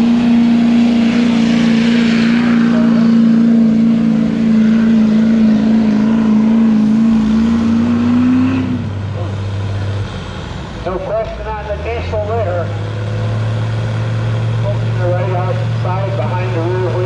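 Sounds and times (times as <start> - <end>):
diesel truck engine at high revs: 0.0 - 17.0.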